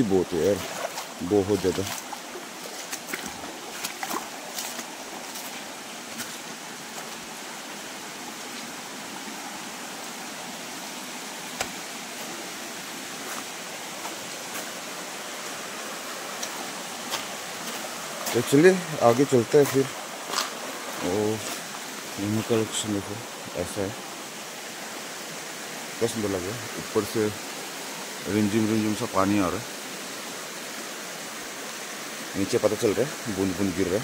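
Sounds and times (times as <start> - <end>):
stream running over rocks: 0.0 - 34.0.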